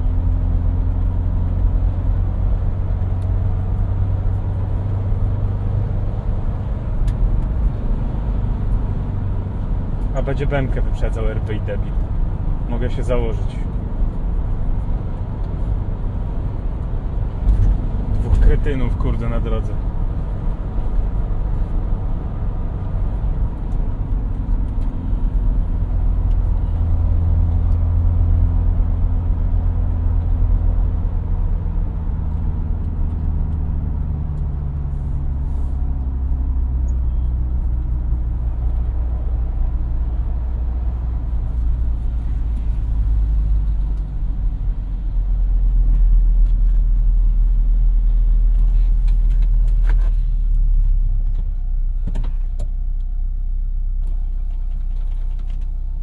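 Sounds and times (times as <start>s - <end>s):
road noise: 0.0s - 56.0s
van engine drone: 0.0s - 56.0s.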